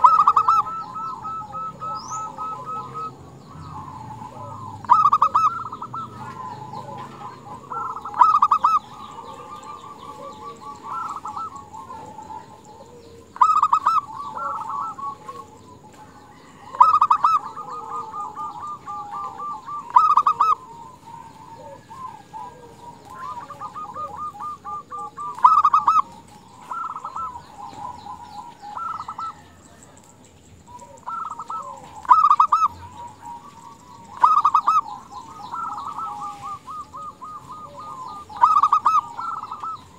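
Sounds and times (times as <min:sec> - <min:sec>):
dove rattling coos: 0:00.0 - 0:39.9.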